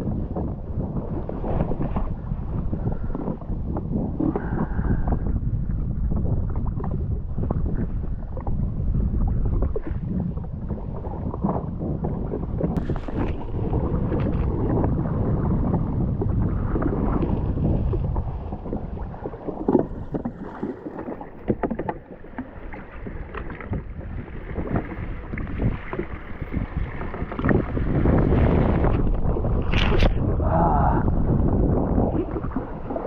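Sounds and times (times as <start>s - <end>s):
water lapping against hull: 0.0s - 33.0s
wind buffeting microphone: 0.0s - 33.0s.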